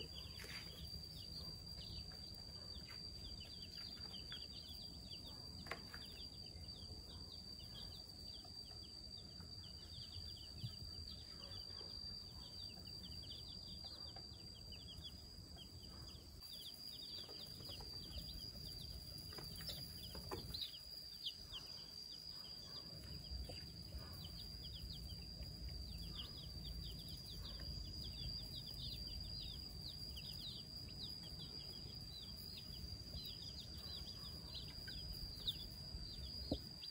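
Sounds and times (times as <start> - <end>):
chicks peeping: 0.0 - 21.9, 22.5 - 36.8.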